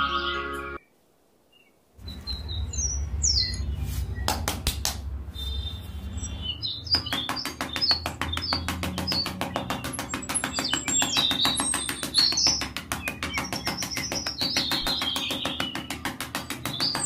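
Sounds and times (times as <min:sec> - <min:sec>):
small birds chirping: 0:00.8 - 0:04.5, 0:05.4 - 0:17.0.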